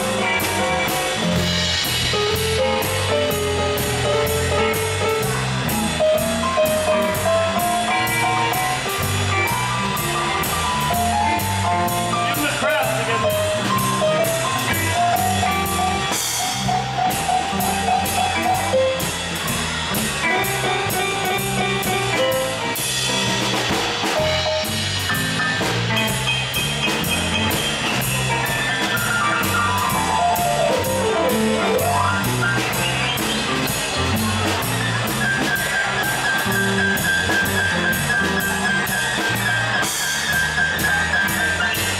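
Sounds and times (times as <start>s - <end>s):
lead guitar melody: 0.0s - 19.4s, 20.0s - 39.8s
live blues band playing: 0.0s - 41.9s.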